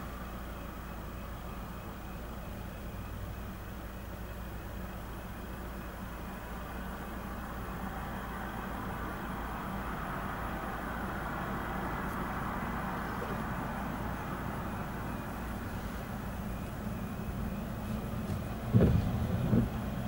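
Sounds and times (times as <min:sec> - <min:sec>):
car cabin rumble and hiss: 0:00.0 - 0:20.0.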